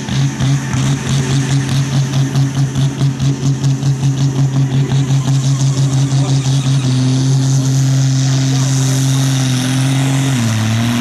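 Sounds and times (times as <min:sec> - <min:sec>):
pulsing diesel tractor engine: 0:00.0 - 0:11.0.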